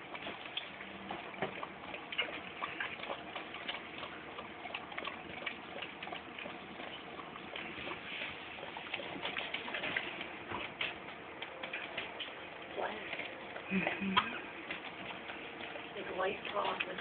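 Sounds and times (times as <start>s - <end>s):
dog licking wet clicks: 0.0s - 17.0s.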